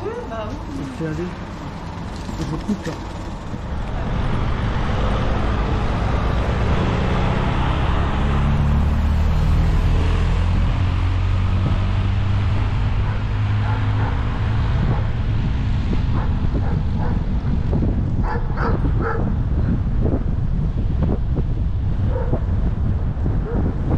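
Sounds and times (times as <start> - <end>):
road noise: 0.0 - 23.9
wind rumble on microphone: 0.0 - 23.9.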